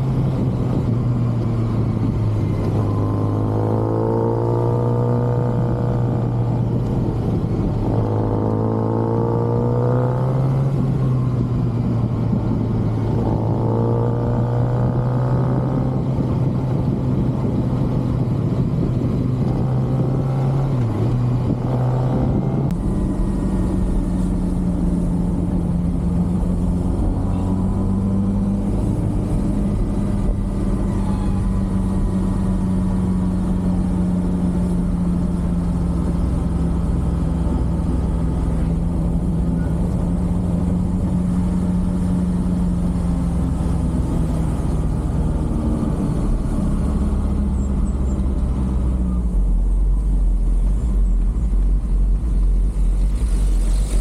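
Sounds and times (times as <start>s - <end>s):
motorcycle engine running: 0.0s - 48.3s
road noise: 0.0s - 54.0s
wind noise: 0.0s - 54.0s.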